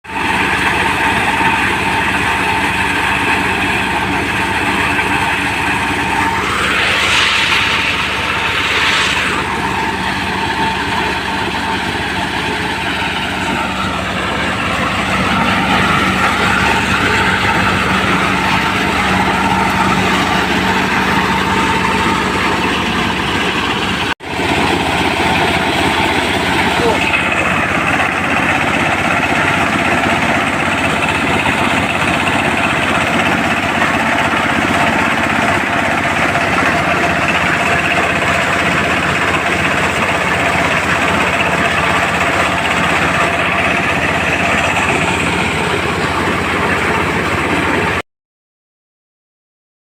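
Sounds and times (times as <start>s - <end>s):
corn sheller machine running: 0.1s - 48.0s.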